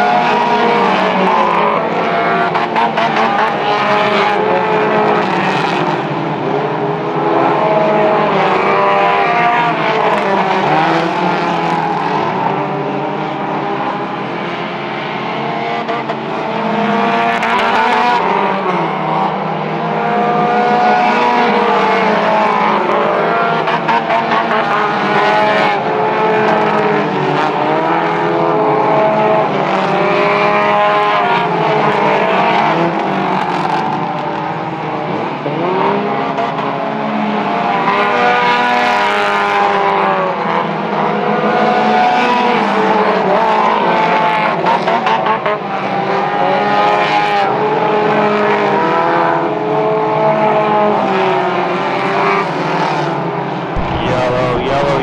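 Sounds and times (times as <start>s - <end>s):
race car engines: 0.0s - 55.0s.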